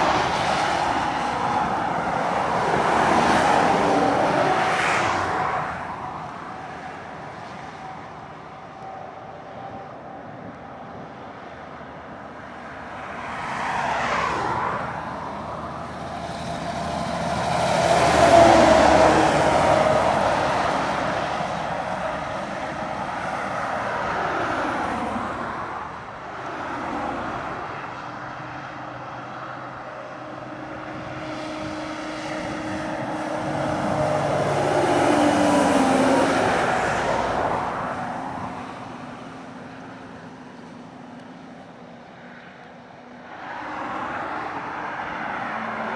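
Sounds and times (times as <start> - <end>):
heavy lorries labouring uphill: 0.0 - 13.3, 14.5 - 45.9.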